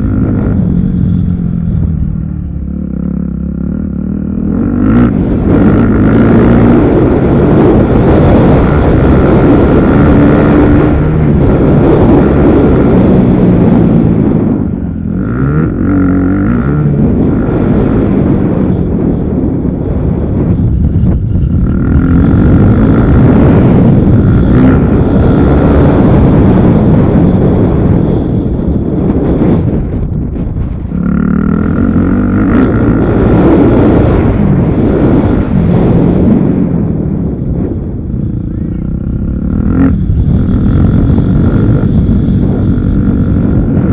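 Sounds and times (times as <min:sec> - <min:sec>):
motocross bike engine revving: 0:00.0 - 0:37.1, 0:38.1 - 0:43.9
wind buffeting microphone: 0:00.0 - 0:43.9.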